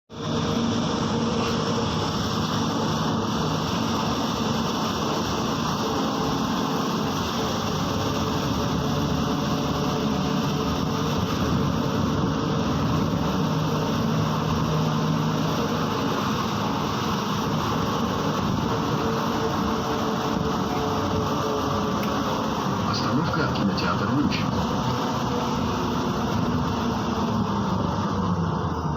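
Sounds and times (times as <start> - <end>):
bus engine hum: 0.1 - 28.9.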